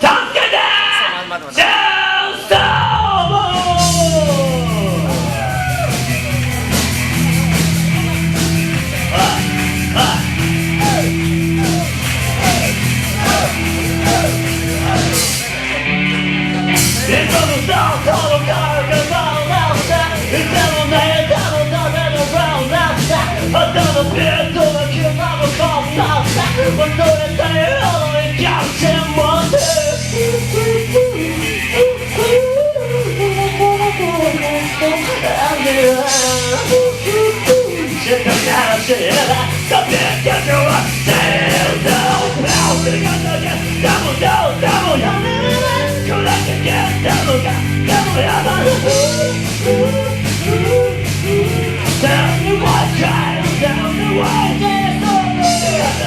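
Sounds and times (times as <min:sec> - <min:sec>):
band playing rock song: 0:00.0 - 0:56.0
bass line: 0:02.5 - 0:56.0
steady drum beat: 0:02.6 - 0:56.0
lead melody: 0:03.8 - 0:38.0, 0:39.4 - 0:56.0.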